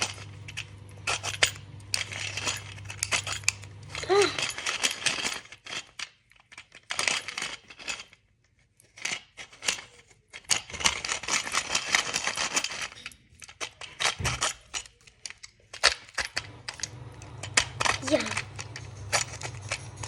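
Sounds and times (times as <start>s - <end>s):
plastic gadget clicking and rasping: 0.0s - 20.0s.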